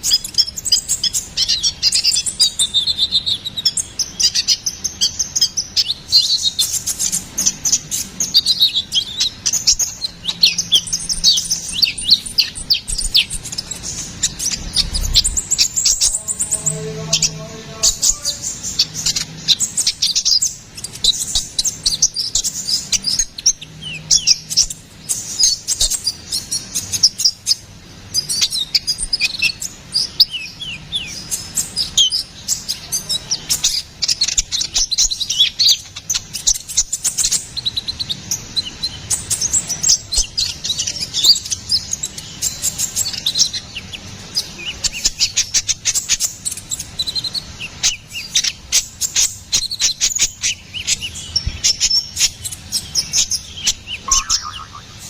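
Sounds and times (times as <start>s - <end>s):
small bird singing high chirps: 0.0s - 55.0s.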